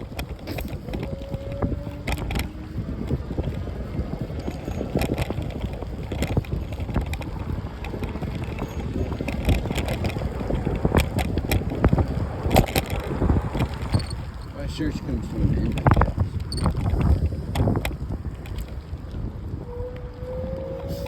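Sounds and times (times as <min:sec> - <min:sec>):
bicycle rattles and clicks: 0:00.0 - 0:21.0
wind buffeting microphone: 0:00.0 - 0:21.0.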